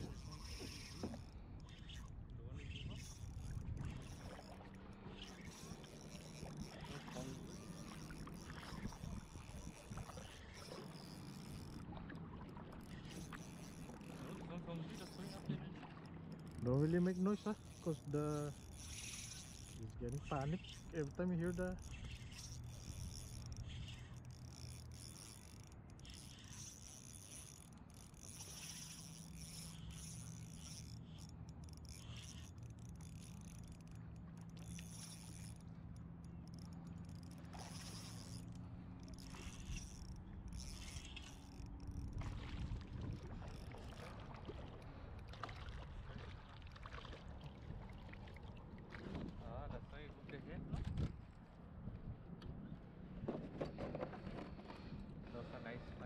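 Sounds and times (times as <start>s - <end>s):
fishing reel whirring: 0.0s - 48.4s
water lapping against plastic hull: 0.0s - 56.0s.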